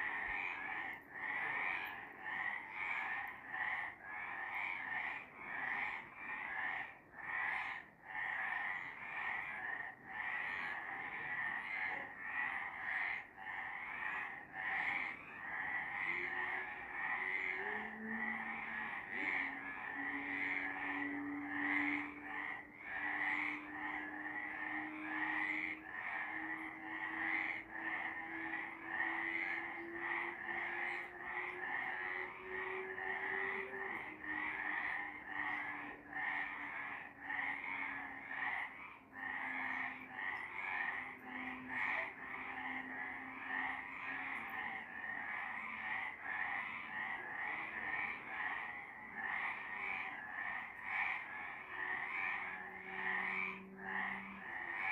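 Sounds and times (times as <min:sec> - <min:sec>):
frogs croaking: 0:00.0 - 0:54.9.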